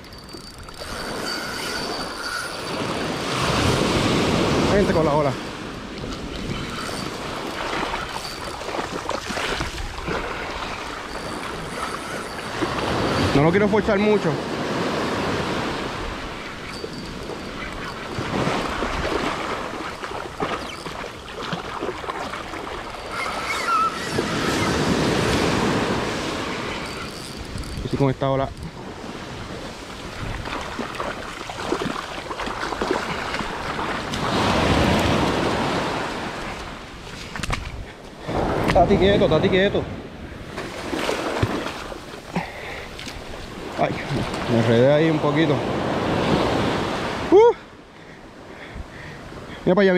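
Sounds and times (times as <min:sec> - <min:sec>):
wind on microphone: 0:00.0 - 0:42.2
small waves washing on beach: 0:00.0 - 0:49.9.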